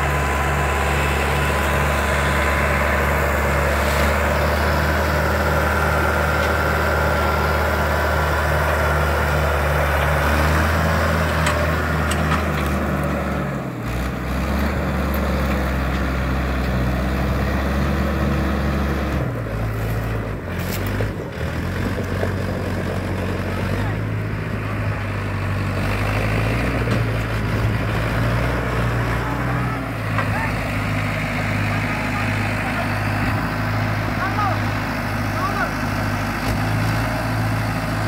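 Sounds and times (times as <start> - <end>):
diesel tractor engine running: 0.0 - 38.0.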